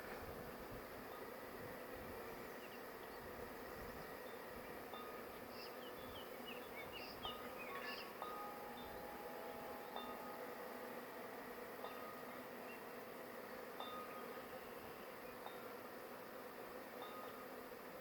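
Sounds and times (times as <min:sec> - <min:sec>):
bee swarm humming: 0:00.0 - 0:18.0.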